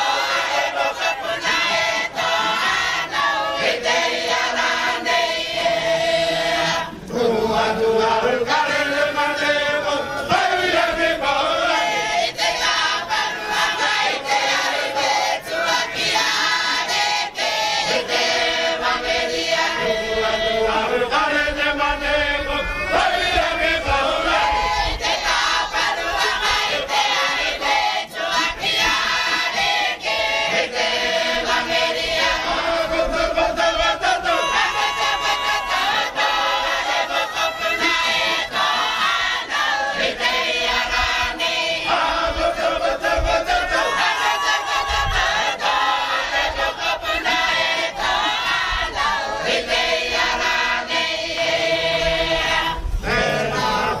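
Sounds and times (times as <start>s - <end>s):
men and women singing in chorus: 0.0s - 54.0s.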